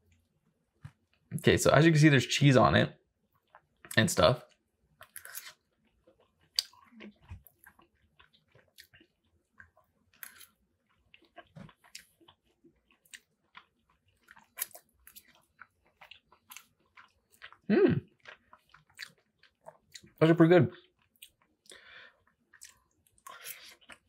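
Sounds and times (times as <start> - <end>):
person chewing food: 3.3 - 24.0.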